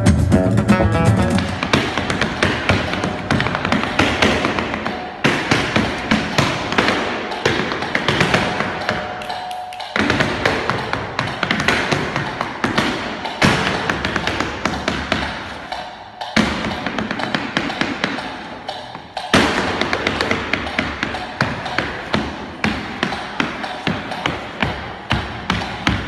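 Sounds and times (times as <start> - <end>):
heeled shoes tapping on stage floor: 0.0 - 26.0.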